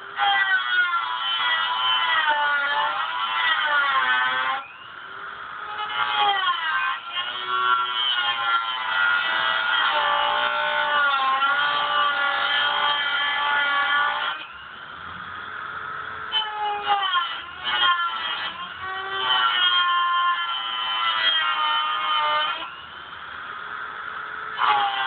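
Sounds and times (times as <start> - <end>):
rotary tool grinding sheet metal: 0.0 - 4.9, 5.6 - 14.6, 16.3 - 23.0, 24.5 - 25.0.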